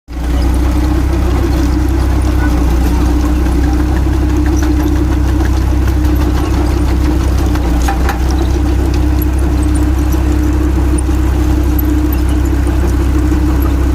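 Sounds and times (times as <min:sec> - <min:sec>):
tractor engine humming: 0:00.1 - 0:13.9.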